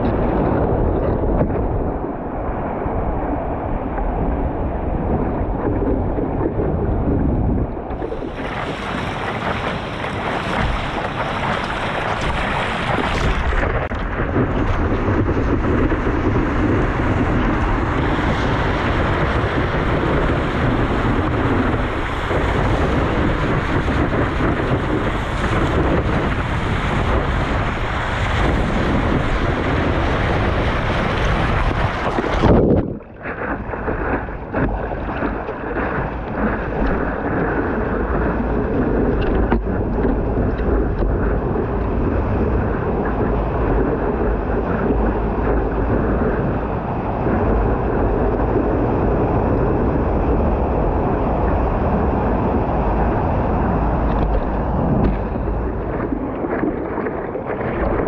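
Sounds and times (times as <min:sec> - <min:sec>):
water rushing and splashing: 0:00.0 - 0:58.0
wind buffeting microphone: 0:00.0 - 0:58.0.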